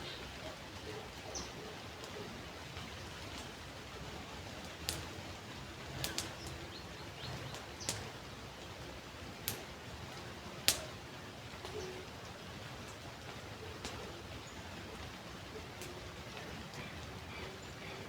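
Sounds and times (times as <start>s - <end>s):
light rain hiss: 0.0s - 18.0s.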